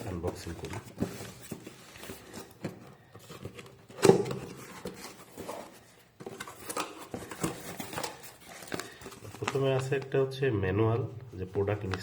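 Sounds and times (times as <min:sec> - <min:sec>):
cardboard packaging rustling: 0:00.0 - 0:10.2.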